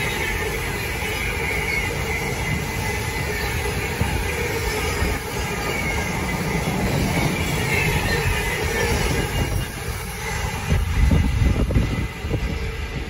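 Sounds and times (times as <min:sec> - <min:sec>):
high wheel squeal: 0:00.0 - 0:13.0.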